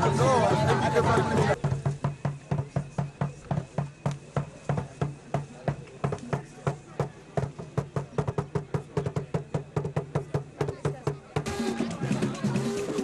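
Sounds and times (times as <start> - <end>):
drum strikes in steady rhythm: 0.0 - 13.0.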